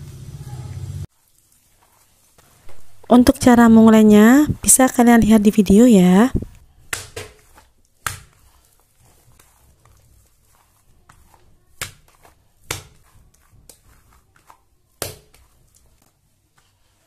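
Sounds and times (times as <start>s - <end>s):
dough kneaded by hand: 0.0s - 17.0s
dough slapping against mat: 1.2s - 17.0s.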